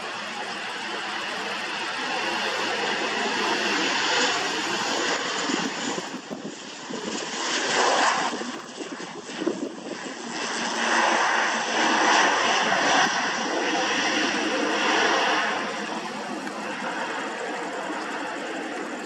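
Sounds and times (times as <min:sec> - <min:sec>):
turboprop engines drone: 0:00.0 - 0:19.0.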